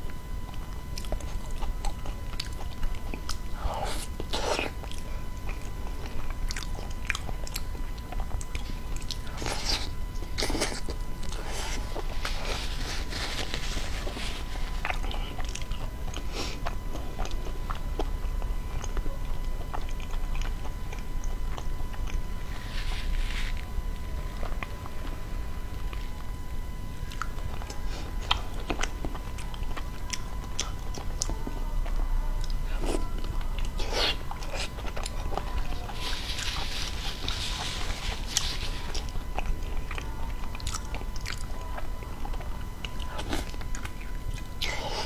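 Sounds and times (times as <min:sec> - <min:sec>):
chewing and biting soft food: 0:00.0 - 0:45.0
faint steady high tone: 0:00.0 - 0:45.0.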